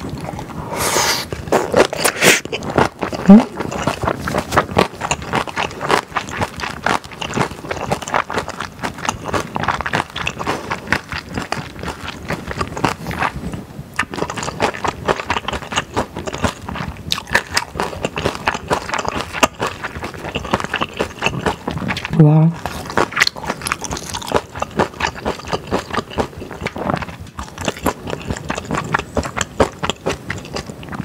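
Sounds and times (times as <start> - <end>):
close chewing mouth sounds: 0.0 - 31.0.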